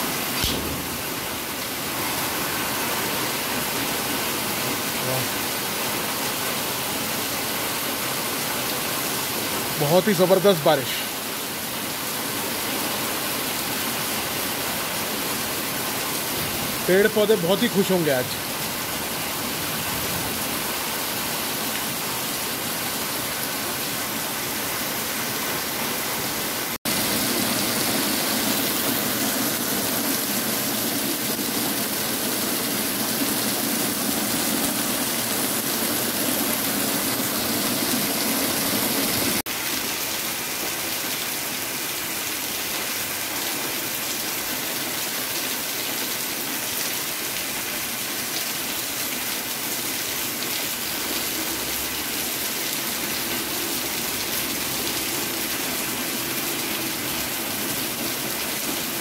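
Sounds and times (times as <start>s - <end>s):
heavy rain on trees and pavement: 0.0s - 59.0s.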